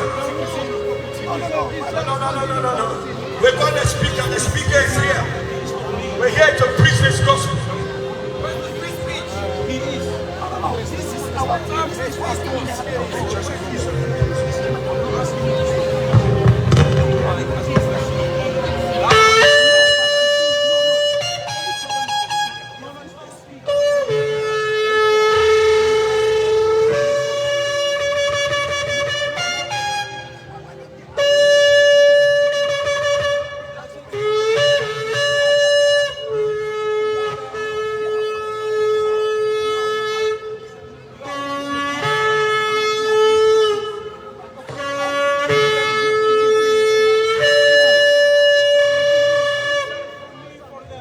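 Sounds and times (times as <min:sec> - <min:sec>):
shofar blasts: 0:00.0 - 0:50.9.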